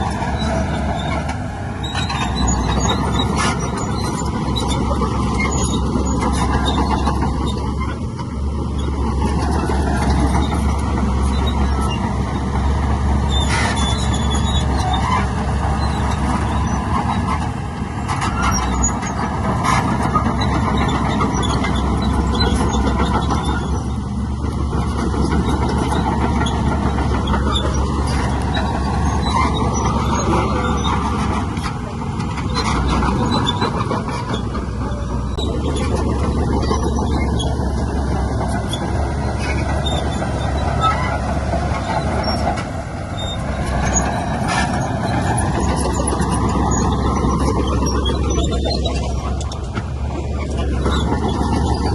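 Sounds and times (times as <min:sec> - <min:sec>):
diesel machinery running: 0:00.0 - 0:51.9.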